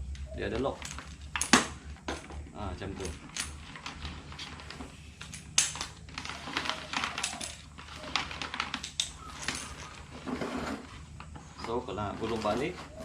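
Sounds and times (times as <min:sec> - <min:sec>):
plastic hose reel clicking and rattling: 0:00.6 - 0:13.0.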